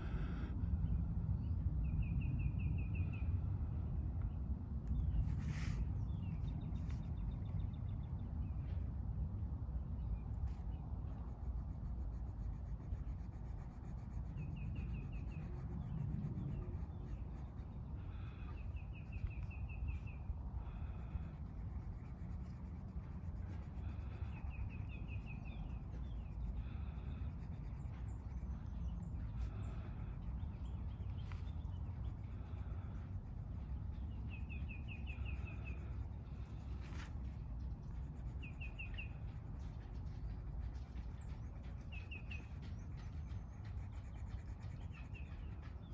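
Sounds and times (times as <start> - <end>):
low outdoor rumble: 0.0 - 45.9.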